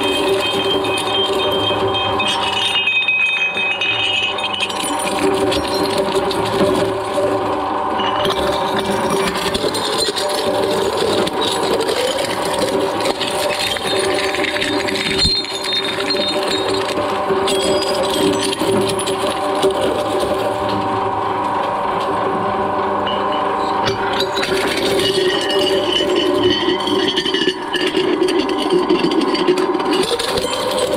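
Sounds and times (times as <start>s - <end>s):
glass crunching and clinking: 0.0s - 20.9s, 23.0s - 30.9s
shredder motor hum: 0.0s - 30.9s.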